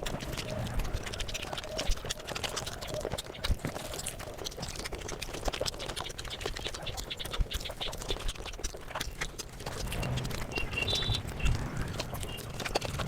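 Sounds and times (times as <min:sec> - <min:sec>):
sped-up chewing and mouth smacks: 0:00.0 - 0:13.0.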